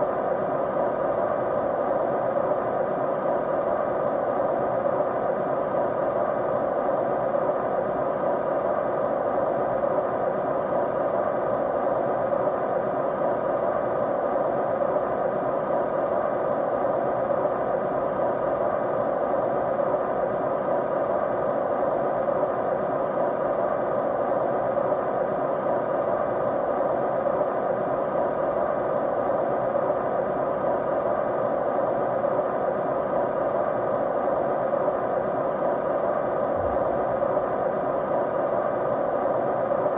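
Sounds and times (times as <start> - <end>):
faint steady tones: 0.0 - 39.9
steady white noise hiss: 0.0 - 39.9.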